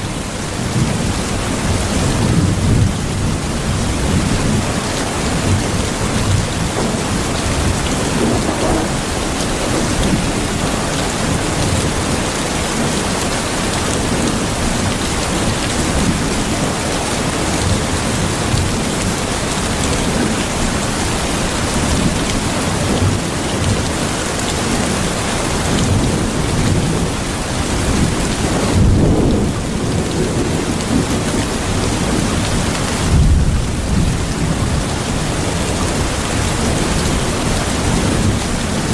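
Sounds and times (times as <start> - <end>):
heavy rain pouring: 0.0 - 38.9
thunder rumbling: 0.5 - 38.9.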